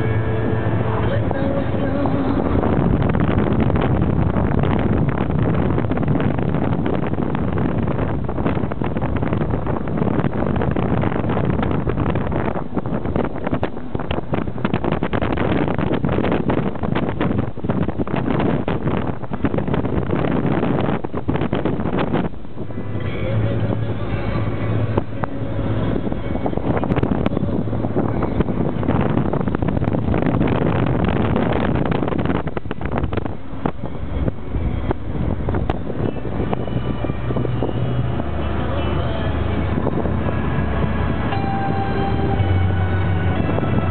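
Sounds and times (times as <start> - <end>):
vehicle road noise: 0.0 - 43.9
wind and tyre noise: 0.0 - 43.9
wind buffeting microphone: 0.0 - 43.9.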